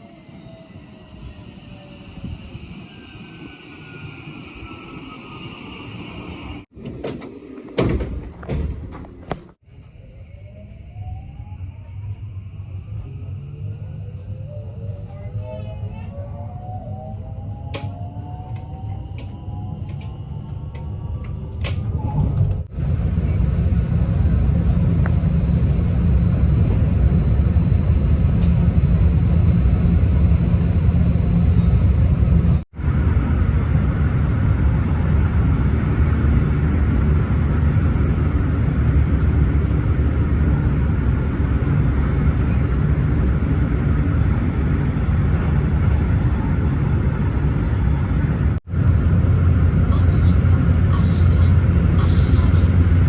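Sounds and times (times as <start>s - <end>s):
train rumbling: 0.0s - 53.0s.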